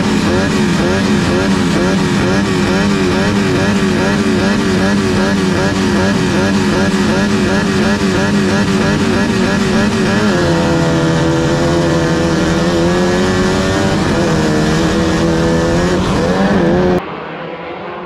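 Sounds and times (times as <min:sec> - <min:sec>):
race car engine running hard: 0:00.0 - 0:18.0.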